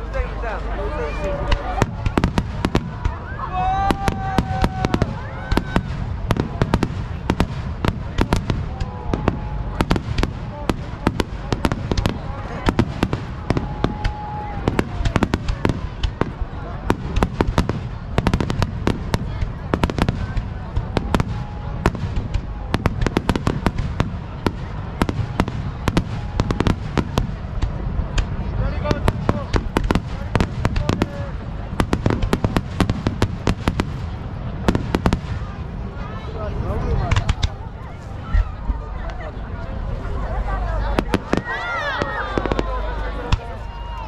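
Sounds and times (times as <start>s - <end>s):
fireworks cracking: 0.0s - 44.0s
low rumble of explosions: 0.0s - 44.0s.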